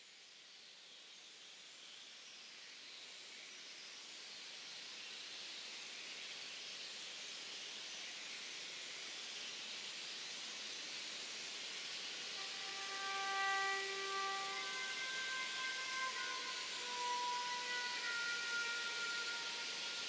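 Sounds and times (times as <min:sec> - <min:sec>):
electronic hiss: 0:00.0 - 0:20.0.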